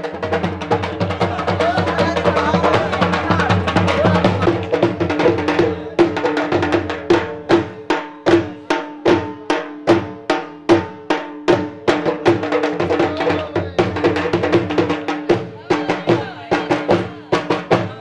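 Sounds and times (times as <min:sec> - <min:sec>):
drum beating steadily: 0:00.0 - 0:18.0.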